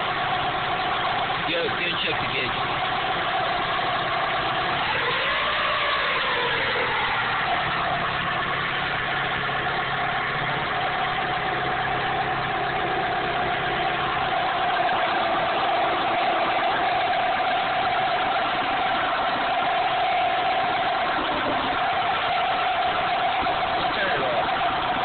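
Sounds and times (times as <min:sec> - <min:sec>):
car engine whining: 0:00.0 - 0:25.0.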